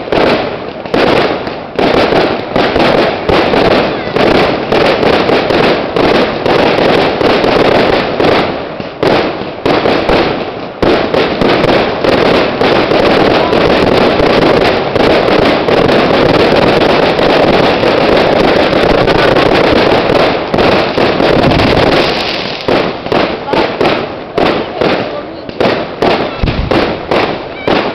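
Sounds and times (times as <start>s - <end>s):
fireworks bursting: 0.0s - 27.9s.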